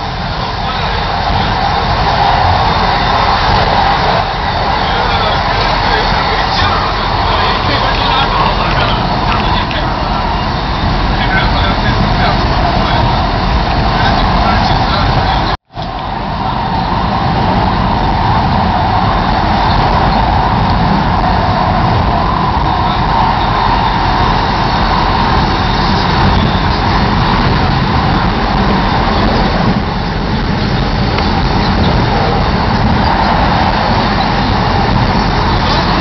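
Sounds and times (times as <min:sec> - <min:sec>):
train carriage rumble and hiss: 0:00.0 - 0:36.0.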